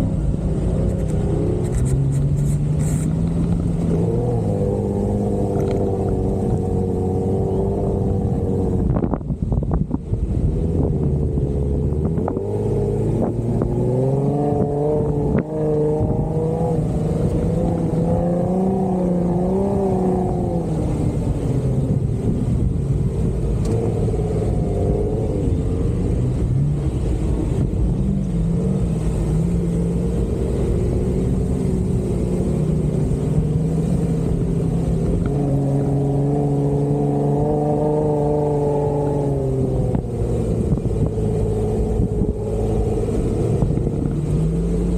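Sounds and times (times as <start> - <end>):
engine revving under load: 0.0 - 9.2, 10.6 - 44.9.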